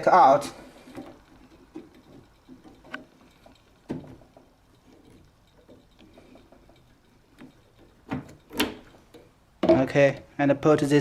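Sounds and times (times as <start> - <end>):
faint metal clicks and knocks: 0.6 - 10.9.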